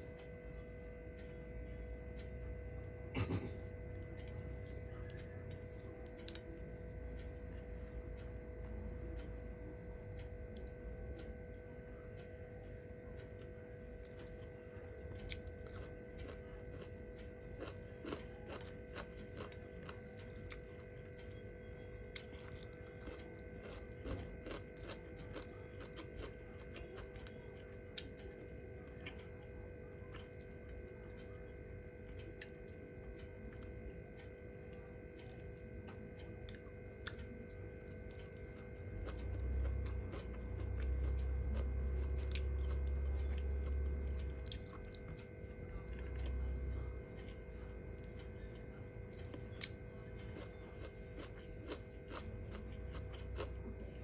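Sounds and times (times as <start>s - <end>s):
steady hum: 0.0s - 54.0s
person chewing food: 2.1s - 9.4s, 13.2s - 54.0s.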